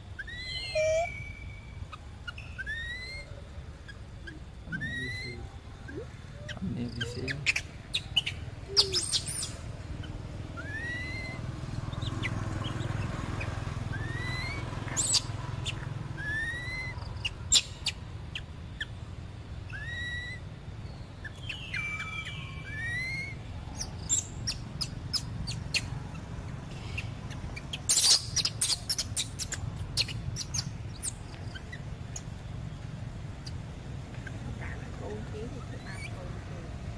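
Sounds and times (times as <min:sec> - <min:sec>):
upward-gliding whistled calls: 0:00.0 - 0:19.0, 0:19.7 - 0:32.8.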